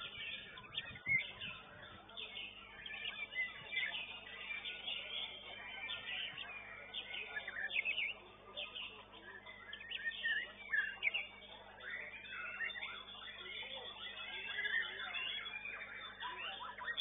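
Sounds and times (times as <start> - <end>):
songbirds chirping and whistling: 0.0 - 17.0.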